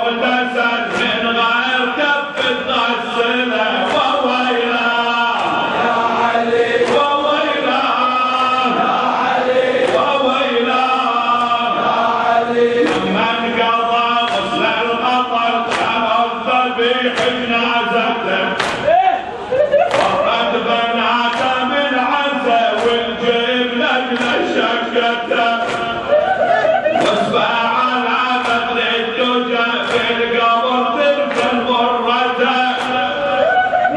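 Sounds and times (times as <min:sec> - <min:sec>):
men chanting a lament: 0:00.0 - 0:33.9
sharp rhythmic slaps: 0:00.0 - 0:33.9.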